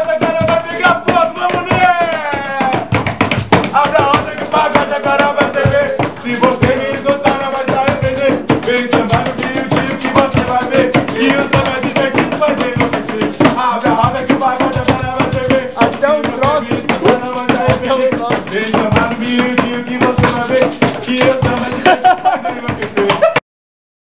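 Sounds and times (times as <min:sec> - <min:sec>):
hand drum beating: 0:00.0 - 0:23.4
men singing samba: 0:00.0 - 0:23.4.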